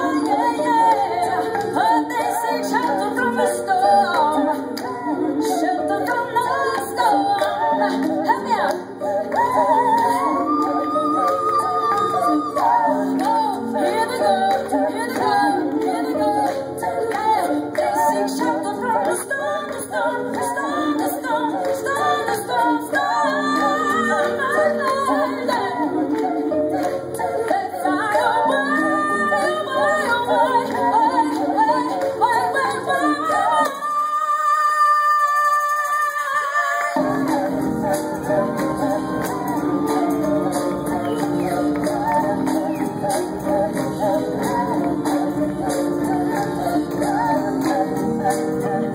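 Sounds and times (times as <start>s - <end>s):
instrumental backing music: 0.0s - 33.8s, 36.9s - 48.9s
woman singing: 0.0s - 48.9s.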